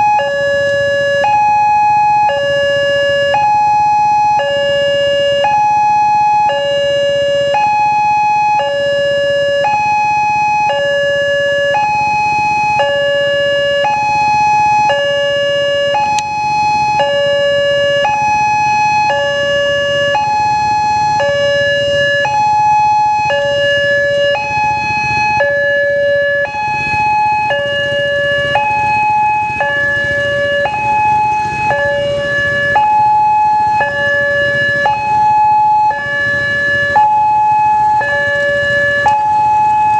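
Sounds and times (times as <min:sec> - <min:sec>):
two-tone crossing alarm: 0:00.0 - 0:39.9.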